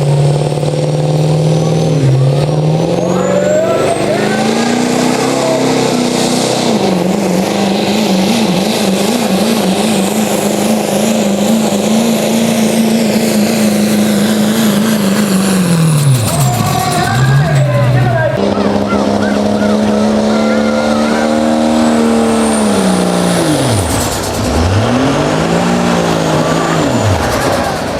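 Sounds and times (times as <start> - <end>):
diesel engine at high revs: 0.0 - 27.9.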